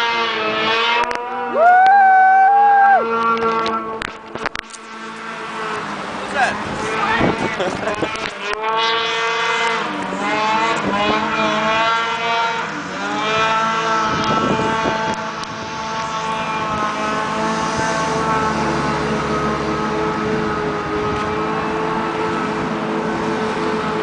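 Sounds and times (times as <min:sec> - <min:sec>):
snowmobile engine at high revs: 0:00.0 - 0:24.0.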